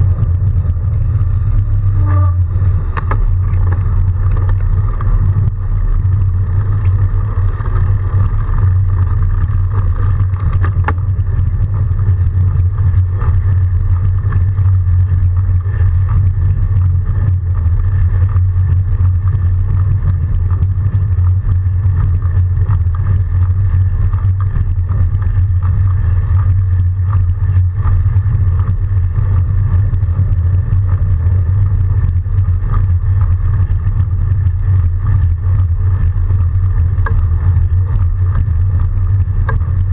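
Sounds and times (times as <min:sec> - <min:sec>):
bike rolling through snow: 0:00.0 - 0:39.9
wind on microphone: 0:00.0 - 0:39.9.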